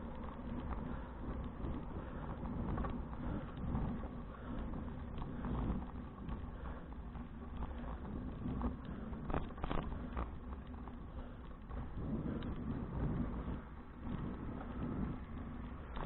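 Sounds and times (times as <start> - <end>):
bicycle clicks and rattles: 0.0 - 16.0
bicycle tyres on path: 0.0 - 16.0
wind on microphone: 0.0 - 16.0.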